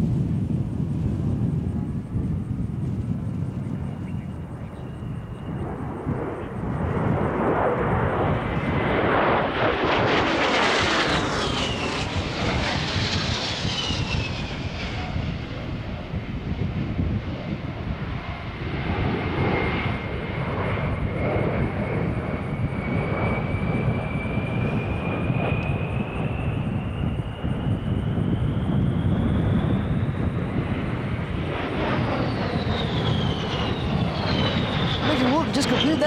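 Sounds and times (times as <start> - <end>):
jet engines whining and rushing: 0.0 - 36.0.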